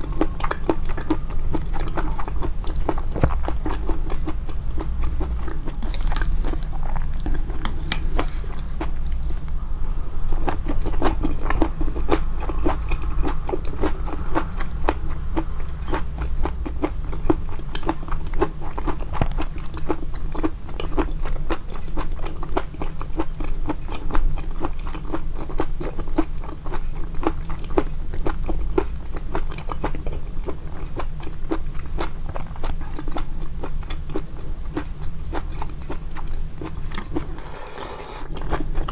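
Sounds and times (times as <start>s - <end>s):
close chewing mouth clicks: 0.0s - 9.7s, 10.4s - 38.9s.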